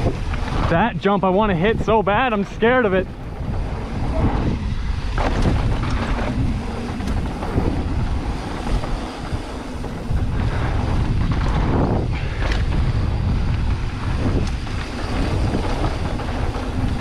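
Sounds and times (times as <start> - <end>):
bike tyres rolling on dirt: 0.0 - 17.0
wind buffeting microphone: 0.0 - 17.0
bike knocking over bumps: 3.2 - 17.0.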